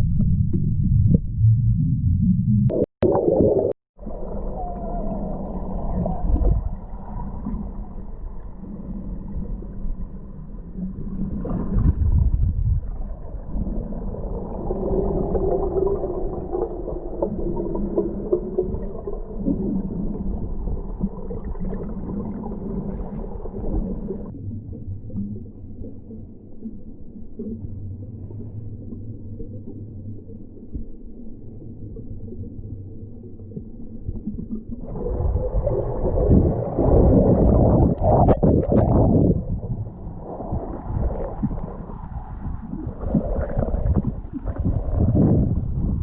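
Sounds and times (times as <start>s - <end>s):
muffled underwater rumble: 0.0s - 46.0s
underwater gurgling: 0.0s - 46.0s.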